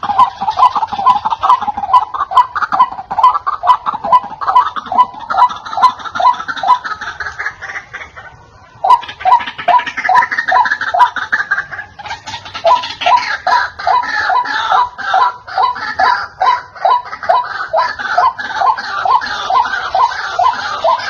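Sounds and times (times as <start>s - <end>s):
waterhen calling wak notes: 0.0s - 21.0s.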